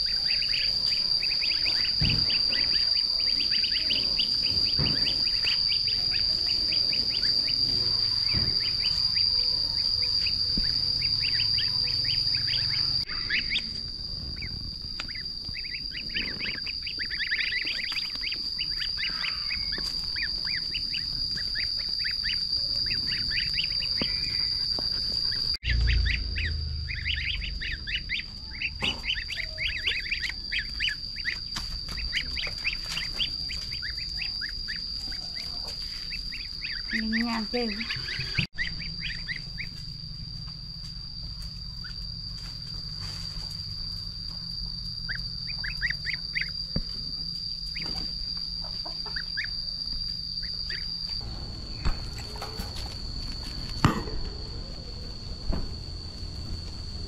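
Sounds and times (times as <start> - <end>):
ducklings peeping: 0.0 - 40.8, 41.4 - 43.4, 45.0 - 47.0, 47.6 - 50.9
steady high-pitched whine: 0.0 - 57.0.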